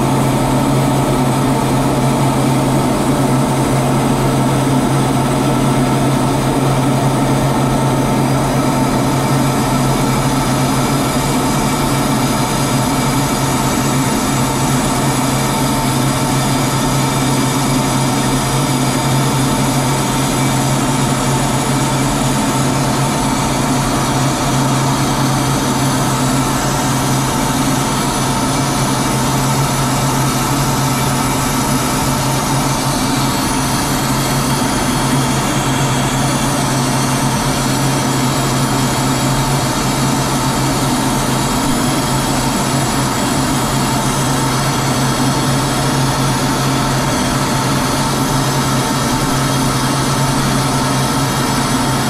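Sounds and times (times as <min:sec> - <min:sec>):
aircraft cockpit engine drone: 0:00.0 - 0:52.0.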